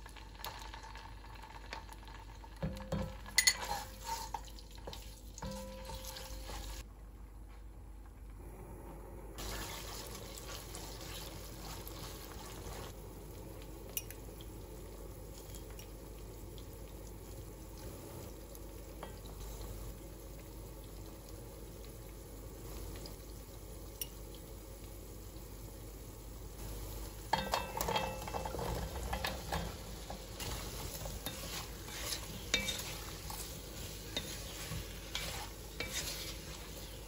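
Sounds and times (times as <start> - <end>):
paste sizzling in oil: 0.0 - 6.9, 9.4 - 37.0.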